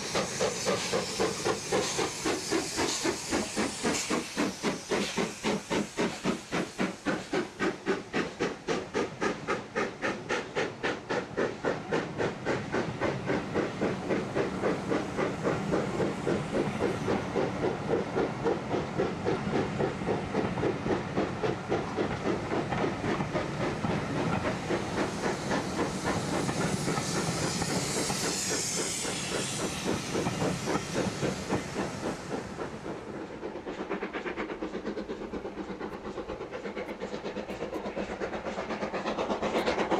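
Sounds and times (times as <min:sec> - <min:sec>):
hissing steam: 0:00.0 - 0:39.9
steam locomotive exhaust beats: 0:00.0 - 0:39.9.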